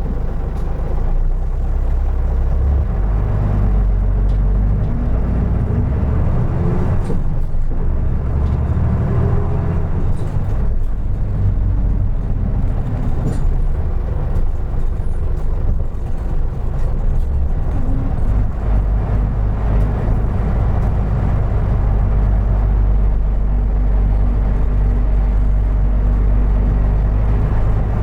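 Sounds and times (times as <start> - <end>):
bus diesel engine rumble: 0.0 - 28.0.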